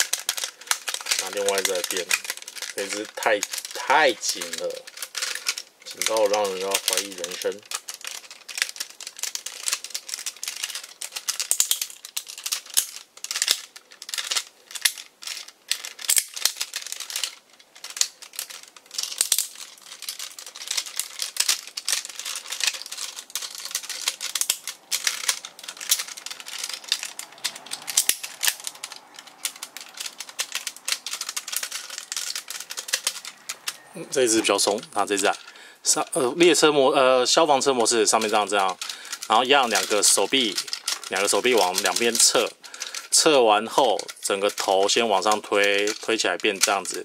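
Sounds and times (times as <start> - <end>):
plastic toy parts clicking: 0.0 - 47.0.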